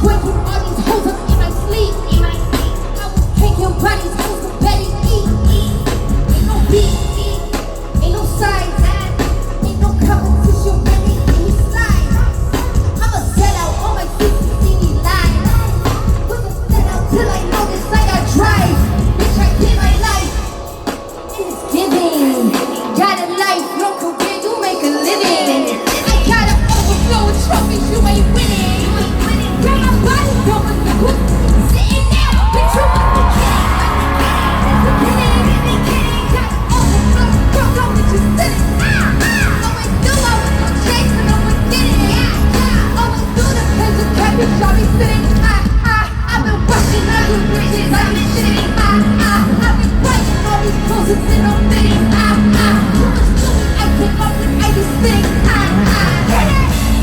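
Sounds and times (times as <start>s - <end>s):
bass-heavy backing beat: 0.0s - 57.0s
fans screaming and cheering: 0.0s - 57.0s
loud live concert music: 0.0s - 57.0s
person singing: 0.0s - 57.0s.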